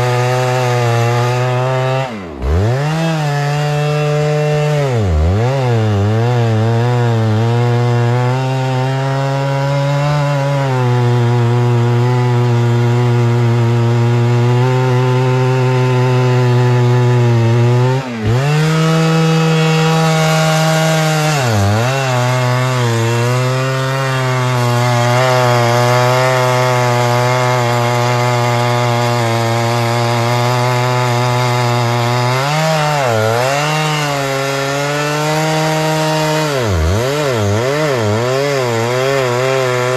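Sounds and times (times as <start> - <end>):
chainsaw cutting into a tree: 0.0 - 39.9.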